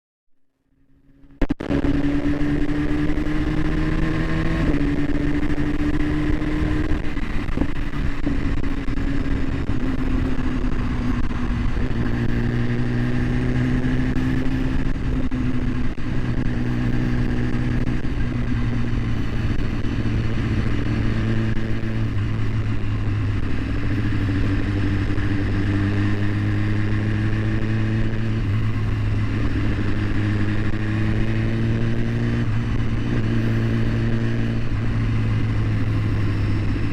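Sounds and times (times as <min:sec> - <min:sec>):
vehicle engine running: 0:00.5 - 0:36.9.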